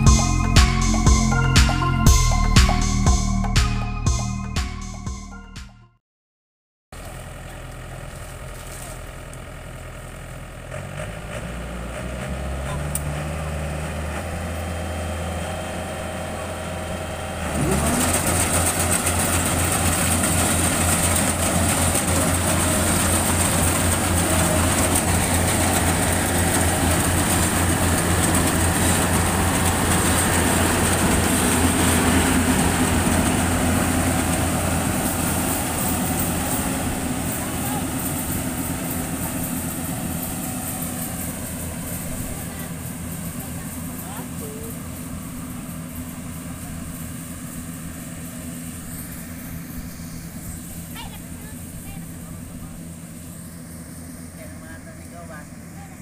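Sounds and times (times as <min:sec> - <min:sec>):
harvester diesel engine running: 0:00.0 - 0:05.6, 0:07.0 - 0:56.0
high whine: 0:00.0 - 0:05.8, 0:14.3 - 0:56.0.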